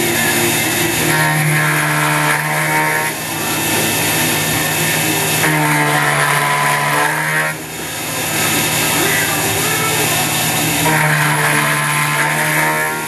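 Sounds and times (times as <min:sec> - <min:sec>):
high cutting whine: 0:00.0 - 0:13.0
spindle hum: 0:00.0 - 0:13.0.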